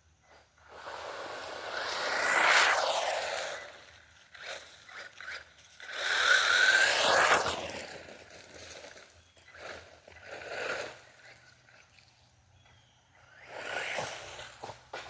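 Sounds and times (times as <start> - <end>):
tyres scraping over ground: 0.2 - 15.0
rc car motor whining: 0.4 - 15.0.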